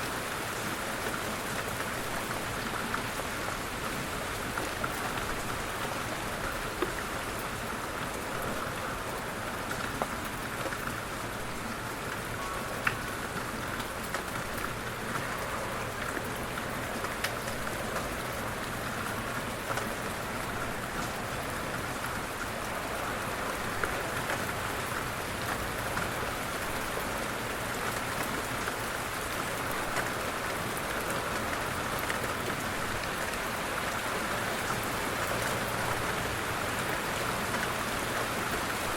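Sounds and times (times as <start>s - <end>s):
light rain falling: 0.0s - 38.9s
raindrop ticks: 0.6s - 38.9s.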